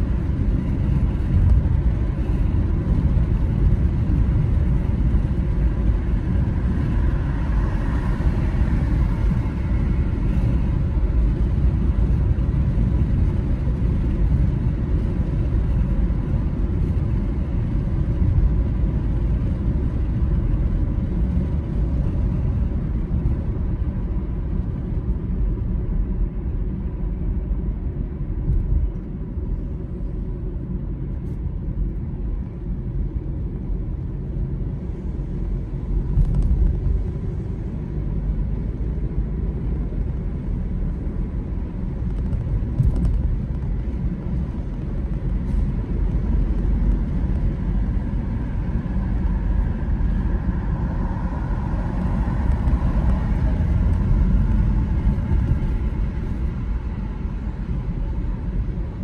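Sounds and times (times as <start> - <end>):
car road rumble from inside: 0.0 - 59.0.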